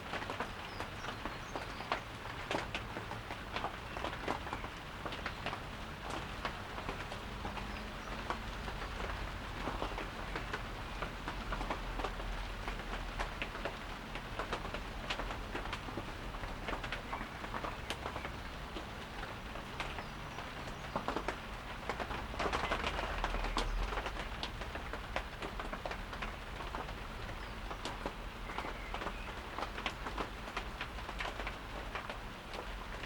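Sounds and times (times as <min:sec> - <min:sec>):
raindrops ticking: 0:00.0 - 0:33.0.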